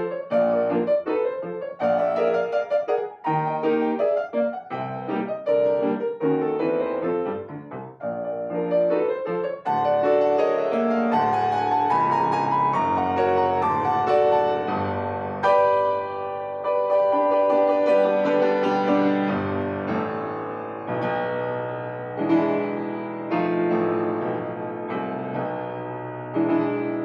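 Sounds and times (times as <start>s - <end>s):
solo piano classical music: 0.0s - 27.0s.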